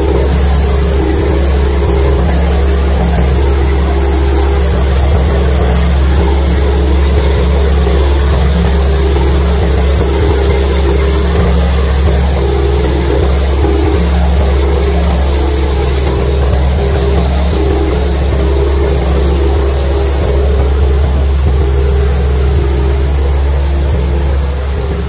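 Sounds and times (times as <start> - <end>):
ferry engines droning: 0.0 - 25.0
water rushing along hull: 0.0 - 25.0.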